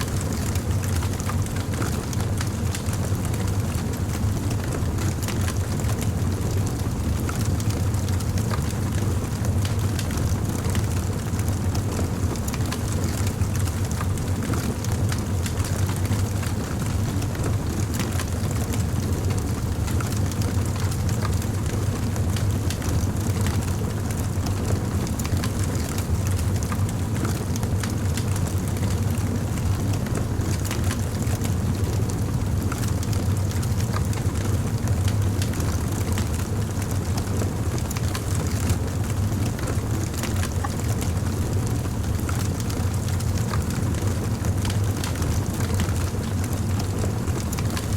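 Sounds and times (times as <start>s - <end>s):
fire crackling and popping: 0.2s - 47.9s.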